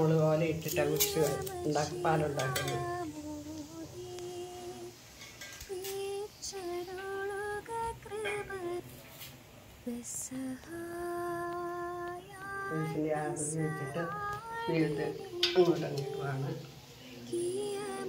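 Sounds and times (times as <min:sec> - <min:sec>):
lower voice singing: 0:00.0 - 0:05.0, 0:05.6 - 0:09.0, 0:09.8 - 0:18.0
woman singing: 0:00.5 - 0:09.0, 0:09.8 - 0:18.0.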